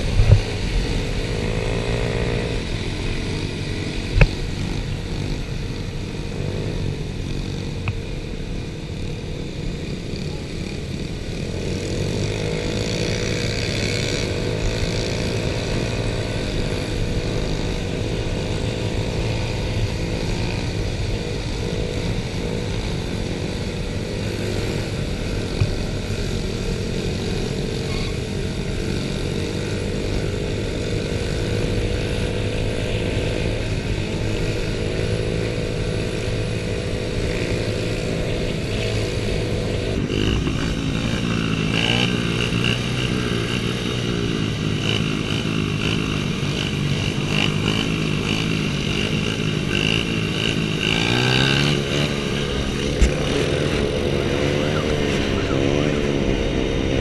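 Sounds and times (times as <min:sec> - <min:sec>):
small motorbike engines running: 0:00.0 - 0:57.0.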